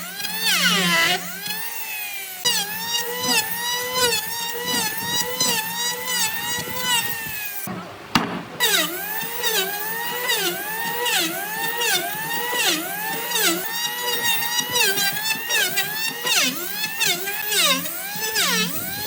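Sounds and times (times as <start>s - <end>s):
power tool whining into wood: 0.0s - 19.0s.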